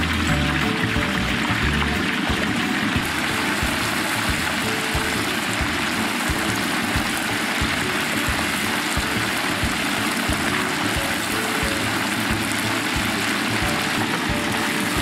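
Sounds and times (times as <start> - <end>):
chicken deep-frying in hot oil: 0.0 - 15.0
soft low beat: 0.0 - 15.0.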